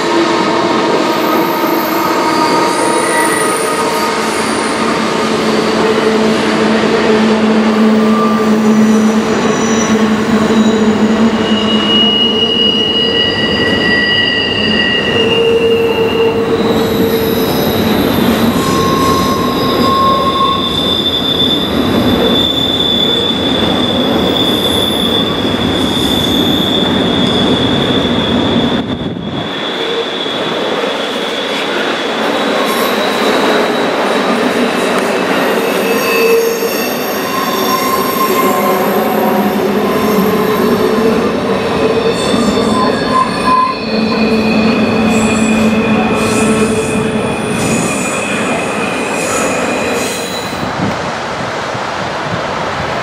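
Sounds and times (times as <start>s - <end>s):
train wheels rumbling on rail: 0.0s - 53.0s
shrill wheel squeals: 0.3s - 50.8s.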